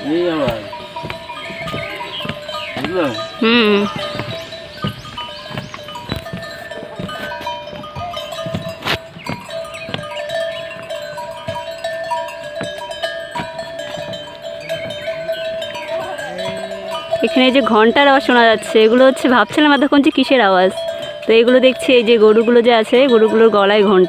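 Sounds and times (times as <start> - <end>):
cow bells clanking: 0.0 - 24.0.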